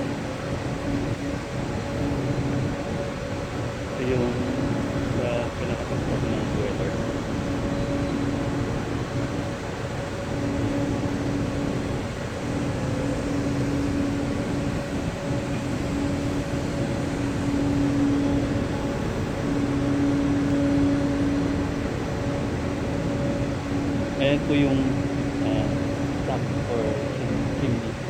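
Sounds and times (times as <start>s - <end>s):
industrial machinery noise: 0.0s - 28.0s
pulsing low hum: 0.0s - 28.0s.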